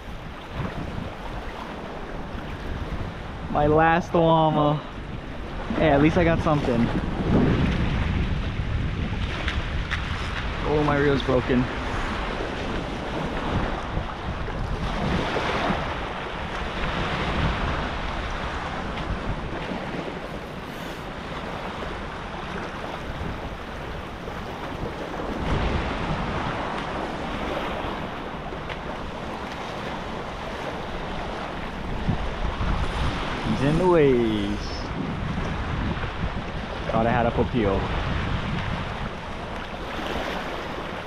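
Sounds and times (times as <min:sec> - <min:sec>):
waves washing on rocks: 0:00.0 - 0:41.0
wind buffeting microphone: 0:00.0 - 0:41.0.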